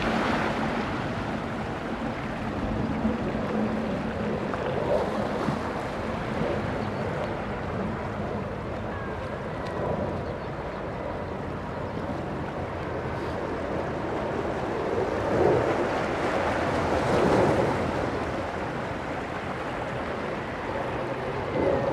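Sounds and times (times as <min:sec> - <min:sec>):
waves washing over rocks: 0:00.0 - 0:09.9, 0:12.5 - 0:21.9.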